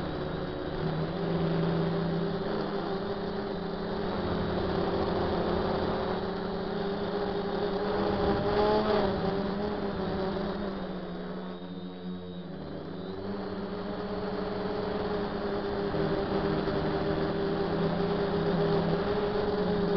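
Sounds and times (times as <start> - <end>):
quadcopter propellers droning: 0.0 - 19.9.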